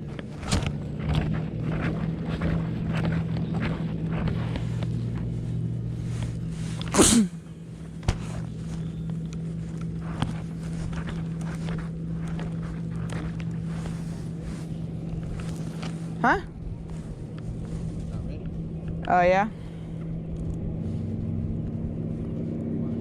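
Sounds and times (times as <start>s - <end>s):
boat motor humming: 0.0s - 23.0s.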